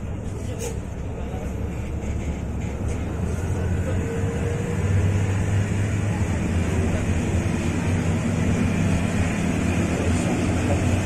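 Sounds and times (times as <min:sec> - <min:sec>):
bus diesel engine droning: 0:00.0 - 0:11.0.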